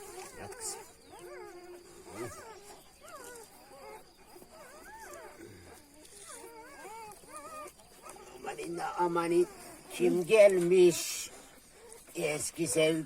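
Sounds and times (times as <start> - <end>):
puppies whining and whimpering: 0.0 - 13.0.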